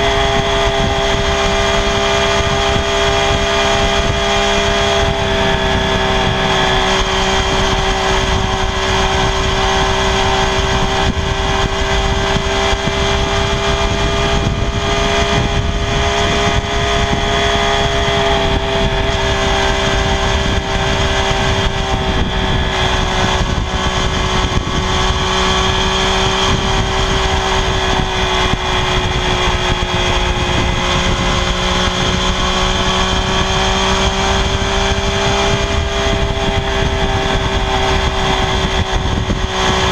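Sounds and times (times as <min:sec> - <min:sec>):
motorcycle engine high-pitched note: 0:00.0 - 0:39.9.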